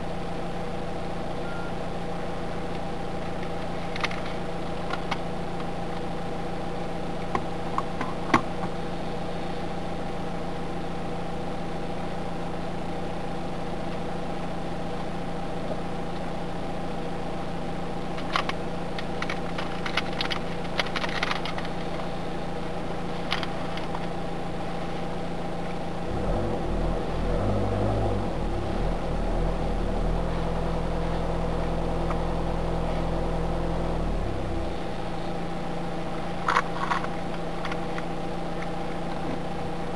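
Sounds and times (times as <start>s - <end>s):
car idling hum: 0.0s - 39.9s.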